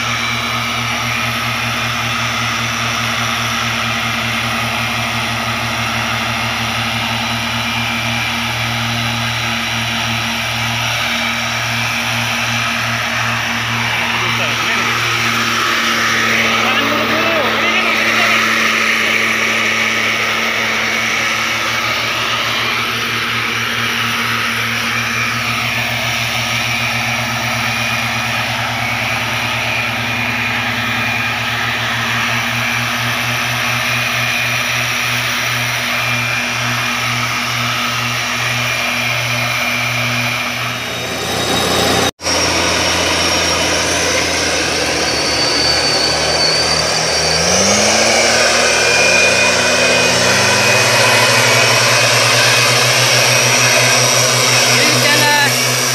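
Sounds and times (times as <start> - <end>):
fan air rushing: 0.0 - 55.9
two-stroke engines running: 0.0 - 55.9.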